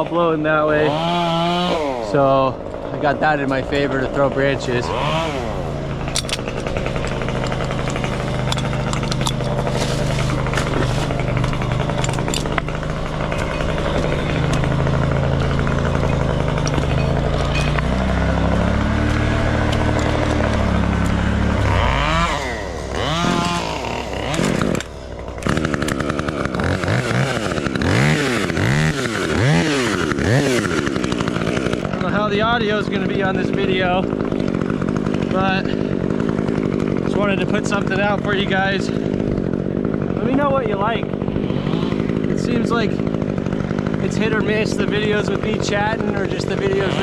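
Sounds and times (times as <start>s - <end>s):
chainsaw engine revving: 0.0s - 47.0s.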